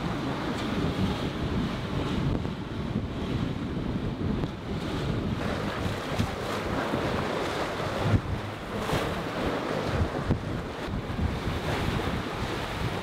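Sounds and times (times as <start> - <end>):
waves washing against hulls: 0.0 - 13.0
wind buffeting microphone: 0.0 - 13.0.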